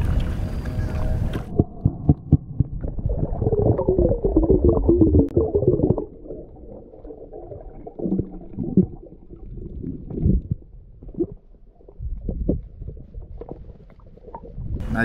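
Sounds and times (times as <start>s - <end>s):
underwater gurgles and knocks: 0.0s - 14.9s
muffled underwater water churn: 0.0s - 15.0s.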